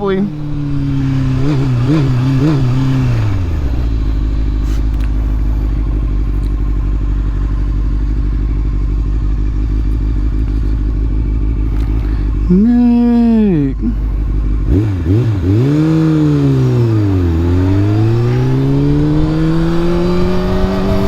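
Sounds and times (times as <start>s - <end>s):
motorcycle engine idling: 0.0s - 20.3s.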